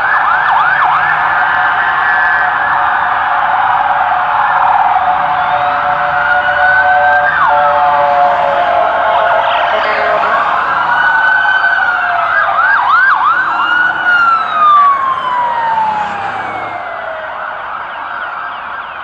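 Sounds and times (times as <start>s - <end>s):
emergency sirens wailing: 0.0s - 19.0s
street noise: 0.0s - 19.0s.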